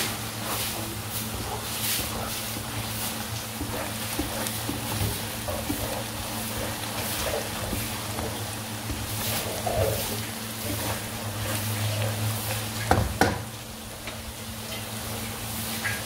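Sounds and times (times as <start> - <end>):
steady low hum: 0.0 - 15.6
onions sizzling in hot oil: 0.0 - 16.0.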